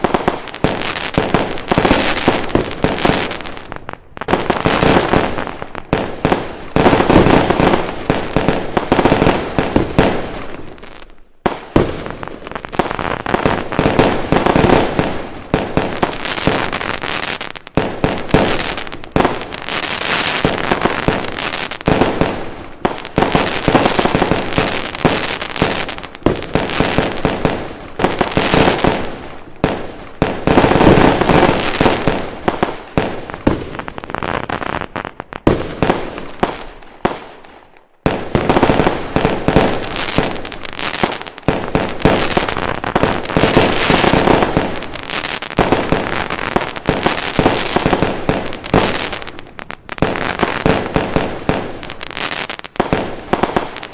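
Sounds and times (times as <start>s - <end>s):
fireworks banging and crackling: 0.0s - 53.9s.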